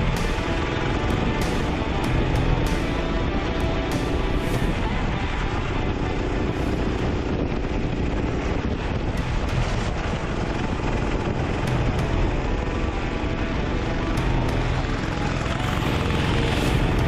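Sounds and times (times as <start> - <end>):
kart engine at speed: 0.0 - 17.0
wind noise on microphone: 0.0 - 17.0.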